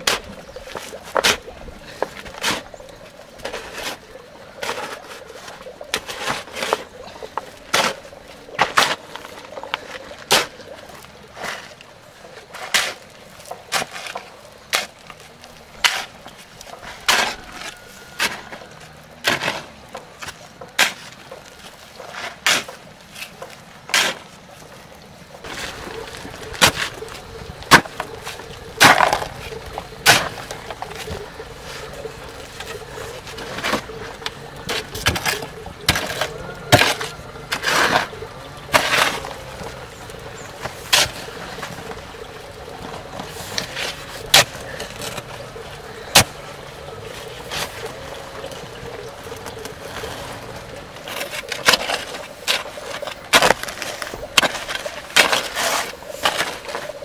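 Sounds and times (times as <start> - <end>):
shovel scraping sand and cement: 0.0 - 24.7, 25.4 - 57.0.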